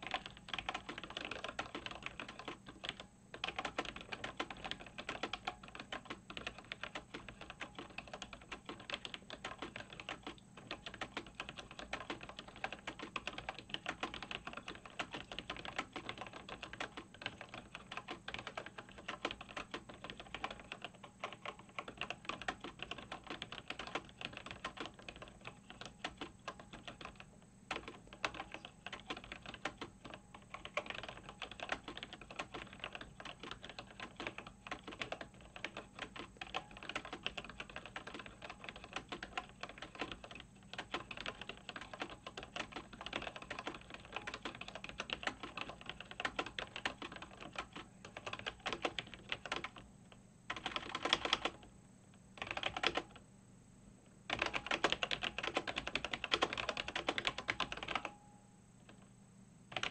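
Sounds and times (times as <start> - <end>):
fast mechanical keyboard typing: 0.0 - 49.8, 50.5 - 51.7, 52.4 - 53.2, 54.3 - 58.2.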